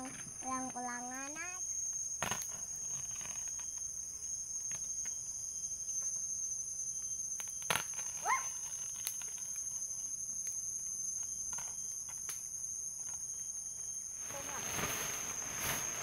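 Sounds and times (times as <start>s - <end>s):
forest insects chorus: 0.0s - 16.0s.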